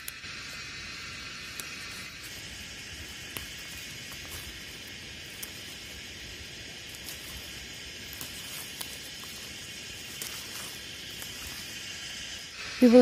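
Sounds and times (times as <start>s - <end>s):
high-pitched insect chorus: 0.0s - 13.0s
stalks snapping and rustling: 1.4s - 12.4s.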